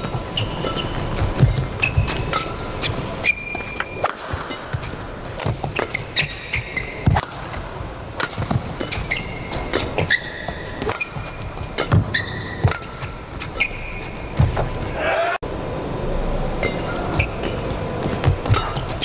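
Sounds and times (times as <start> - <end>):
racket hitting shuttlecock: 0.0 - 14.7, 16.6 - 19.0
shoes squeaking on court: 0.0 - 14.8, 16.6 - 19.0.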